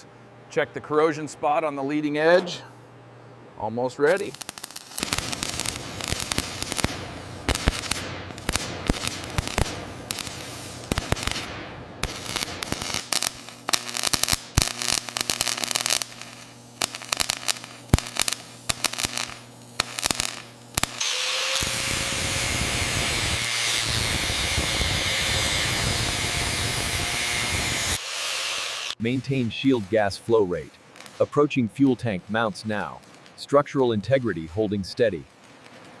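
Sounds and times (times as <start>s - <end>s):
steady welding hiss: 3.6s - 36.0s
welding arc crackling: 4.0s - 36.0s.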